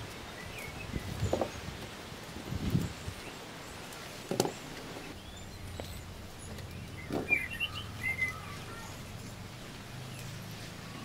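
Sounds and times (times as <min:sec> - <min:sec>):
bird chirping: 0:00.2 - 0:01.7, 0:02.9 - 0:11.0.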